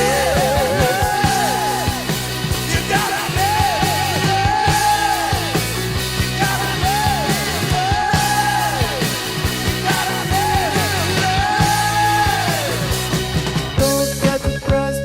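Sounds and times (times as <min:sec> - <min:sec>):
steady drum beat: 0:00.0 - 0:14.8
punk rock music: 0:00.0 - 0:15.0.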